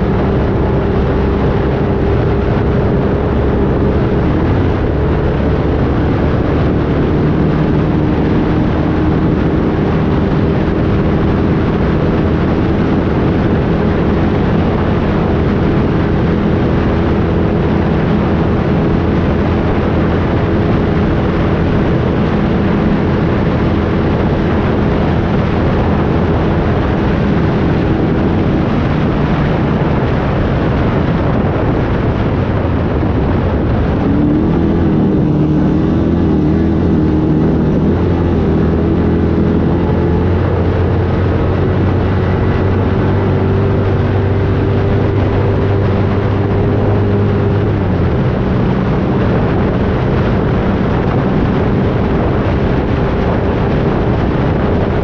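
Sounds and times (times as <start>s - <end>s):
vehicle engine running at speed: 0.0s - 55.0s
wind noise: 0.0s - 55.0s.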